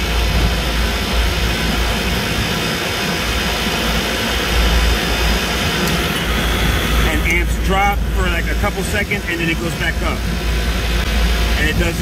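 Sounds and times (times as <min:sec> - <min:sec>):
compressors and fans running: 0:00.0 - 0:12.0.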